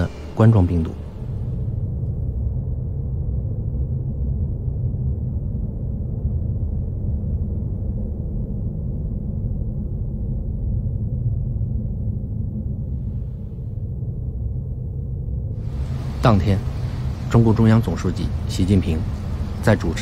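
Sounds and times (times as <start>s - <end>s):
low ambient drone: 0.0s - 20.0s.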